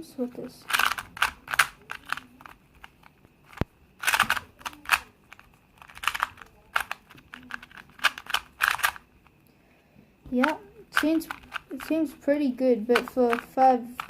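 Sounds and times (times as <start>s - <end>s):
puzzle cube clacking: 0.4s - 9.3s, 10.3s - 14.0s.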